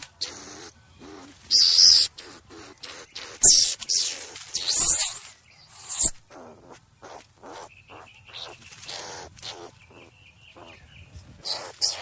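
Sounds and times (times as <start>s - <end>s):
skunk breathy sounds: 0.0s - 12.0s.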